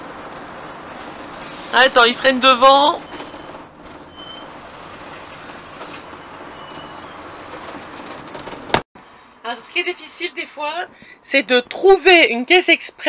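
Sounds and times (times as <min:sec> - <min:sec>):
motorhome road and engine noise: 0:00.0 - 0:13.0.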